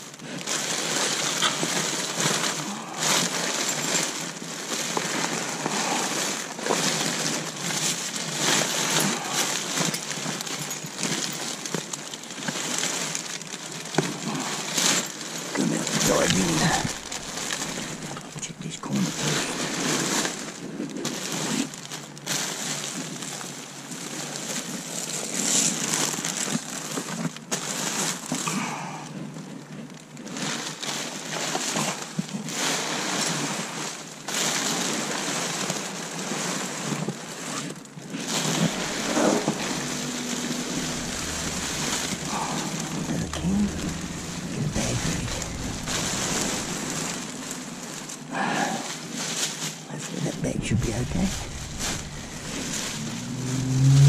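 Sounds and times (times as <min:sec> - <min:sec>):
steady rain falling: 0:00.0 - 0:28.7, 0:38.2 - 0:54.0.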